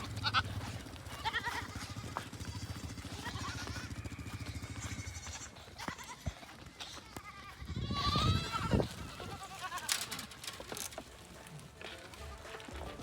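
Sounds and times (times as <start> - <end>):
goat bleating: 0.0 - 11.0.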